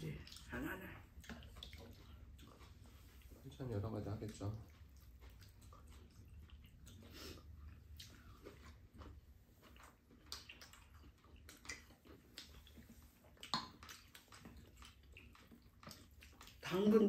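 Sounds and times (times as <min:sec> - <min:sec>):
people chewing: 0:00.0 - 0:17.0.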